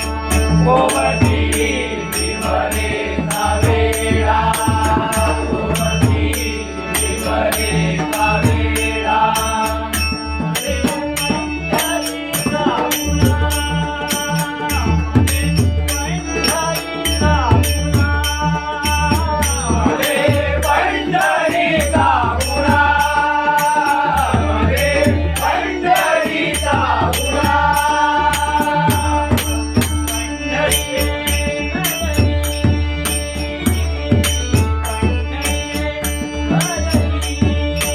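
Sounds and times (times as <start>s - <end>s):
man singing: 0.0s - 37.9s.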